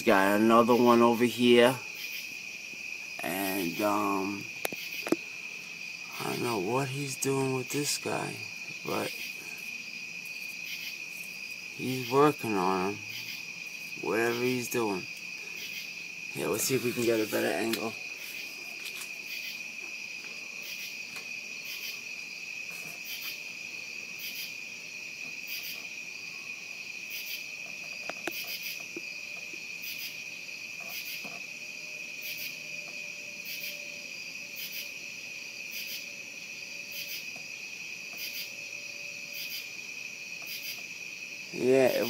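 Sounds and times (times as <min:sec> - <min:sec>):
crickets trilling: 0:00.0 - 0:42.0
insect chirp: 0:00.0 - 0:42.0.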